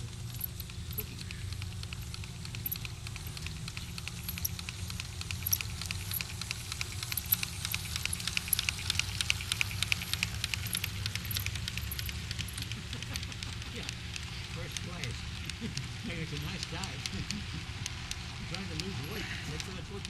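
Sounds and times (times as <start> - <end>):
low steady hum: 0.0 - 20.0
model train wheels clicking on rails: 0.0 - 20.0.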